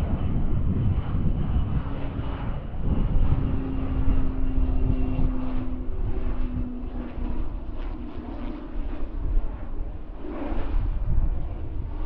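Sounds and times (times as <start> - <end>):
turboprop engines droning: 0.0 - 12.0.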